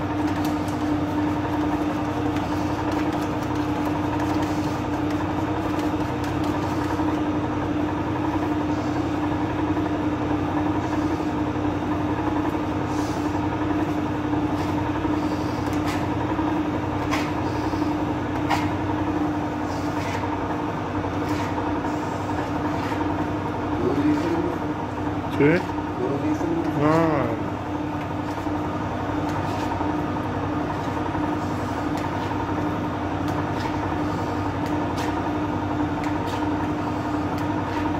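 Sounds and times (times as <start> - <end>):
electric dough mixer humming: 0.0 - 37.9.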